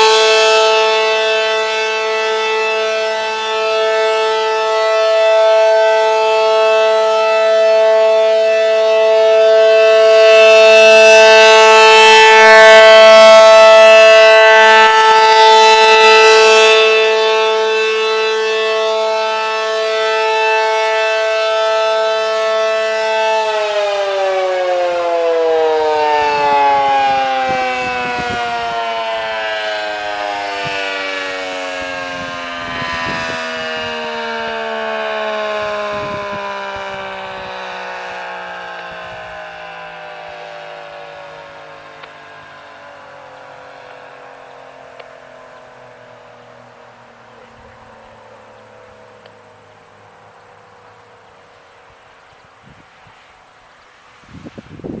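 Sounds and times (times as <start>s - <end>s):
siren winding down: 0.0s - 55.0s
warning siren two-note chord: 0.0s - 55.0s.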